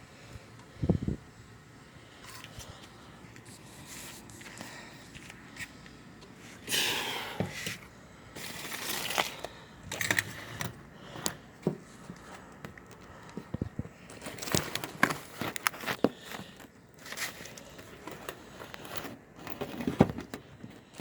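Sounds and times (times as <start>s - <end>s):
rustling and scraping of handling: 1.8s - 21.0s.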